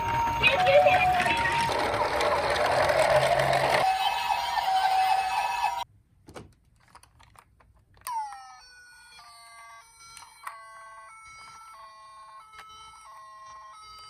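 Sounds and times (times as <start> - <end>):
toy electronic siren: 0.0 - 5.8, 8.0 - 14.0.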